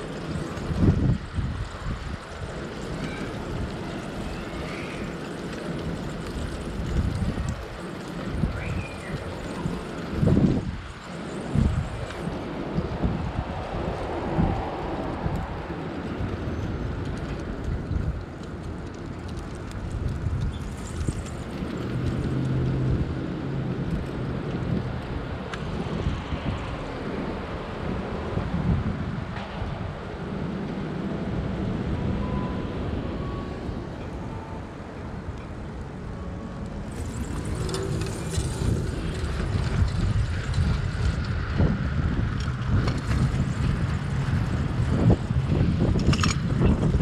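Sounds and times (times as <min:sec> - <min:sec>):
wind rumbling on microphone: 0:00.0 - 0:47.0.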